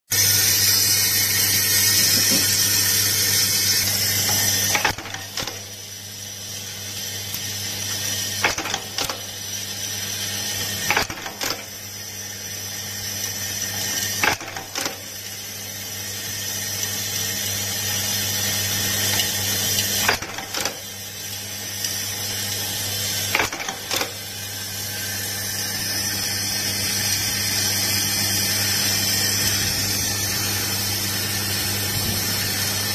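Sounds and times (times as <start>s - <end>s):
bowl feeder humming: 0.1s - 10.9s, 15.6s - 32.9s.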